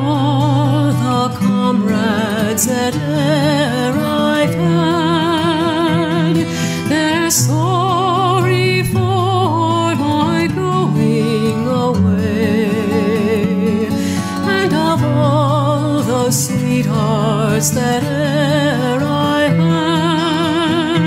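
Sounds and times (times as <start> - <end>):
slow song with vibrato vocals: 0.0 - 21.0.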